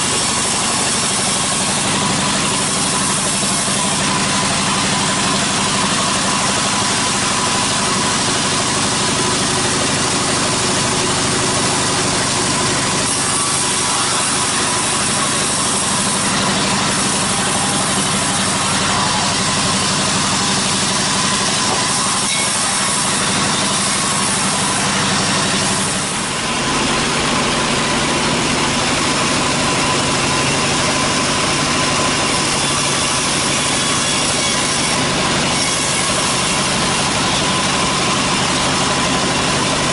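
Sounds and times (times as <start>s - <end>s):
band saw cutting log: 0.0s - 39.9s
motor humming: 0.0s - 39.9s.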